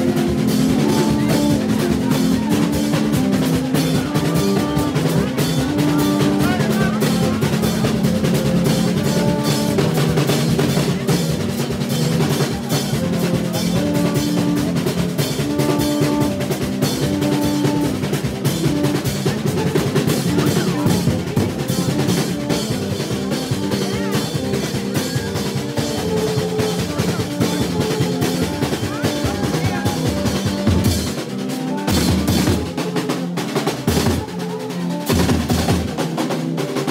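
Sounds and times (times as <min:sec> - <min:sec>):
horn notes: 0:00.0 - 0:36.9
percussion band drumming: 0:00.0 - 0:36.9.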